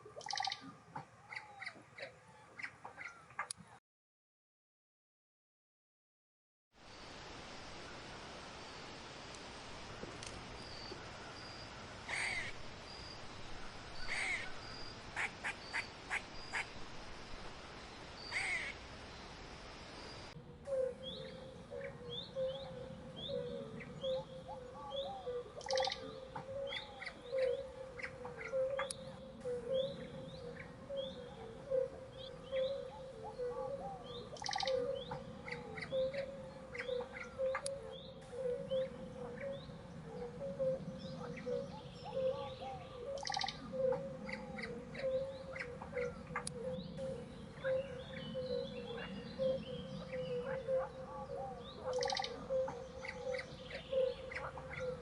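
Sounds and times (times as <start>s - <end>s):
steady background noise: 6.8s - 55.0s.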